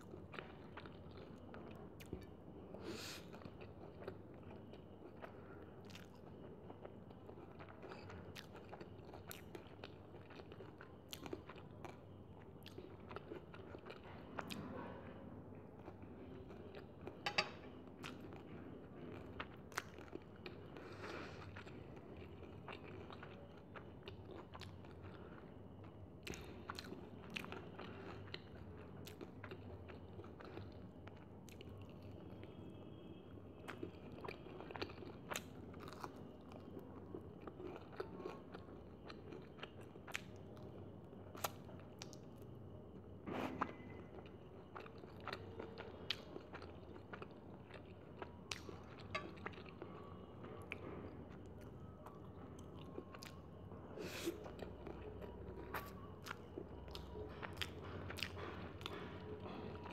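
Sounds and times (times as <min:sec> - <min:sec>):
person chewing crunchy food: 0:00.0 - 0:14.8, 0:15.8 - 0:32.9, 0:33.6 - 0:42.5, 0:43.6 - 0:59.9.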